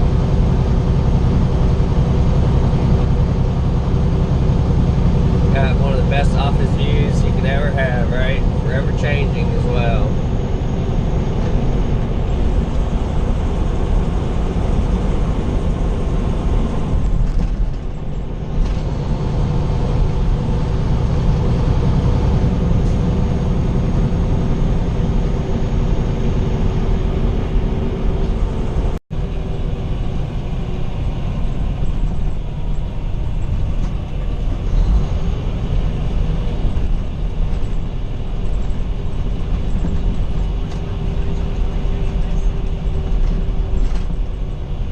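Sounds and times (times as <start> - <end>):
road noise: 0.0 - 44.9
truck engine drone: 0.0 - 44.9.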